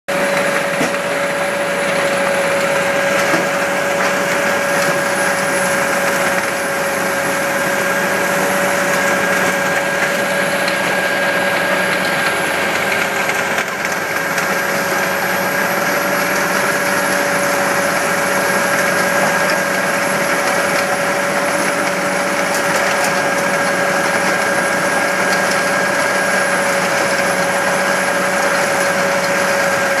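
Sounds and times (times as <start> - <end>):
high mechanical whine: 0.1 - 30.0
rock crusher machinery din: 0.1 - 30.0.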